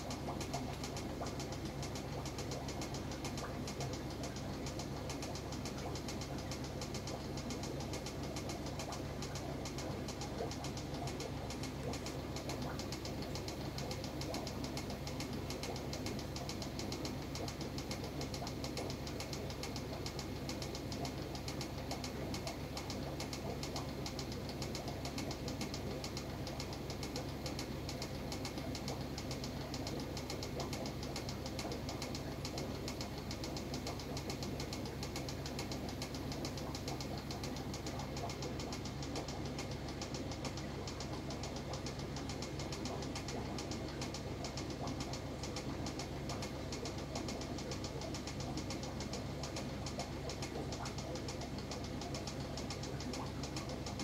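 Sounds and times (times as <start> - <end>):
aquarium equipment hum: 0.0 - 54.0
rapid ticking: 0.0 - 54.0.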